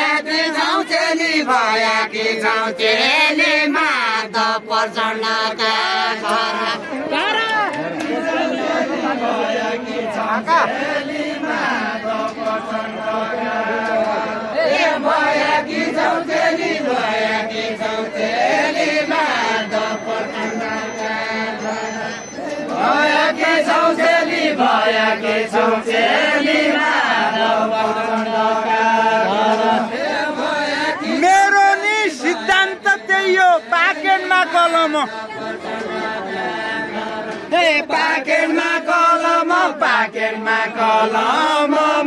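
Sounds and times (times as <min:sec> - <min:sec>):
voices singing folk song: 0:00.0 - 0:42.0.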